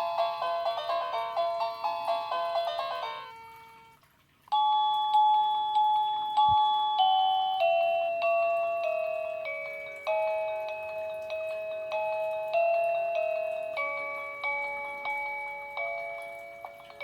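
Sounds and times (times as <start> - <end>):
doorbell chime tunes: 0.0 - 17.0.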